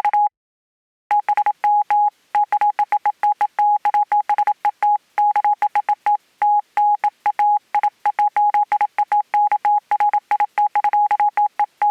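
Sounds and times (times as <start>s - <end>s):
morse code beeps: 1.1s - 11.9s.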